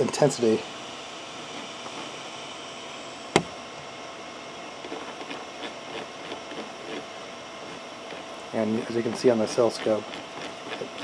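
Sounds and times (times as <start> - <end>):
small fan whirring: 0.0 - 11.0.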